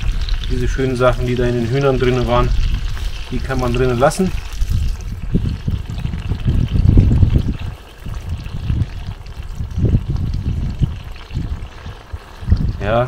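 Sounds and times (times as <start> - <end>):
oil pouring into a metal pot: 0.0 - 13.0.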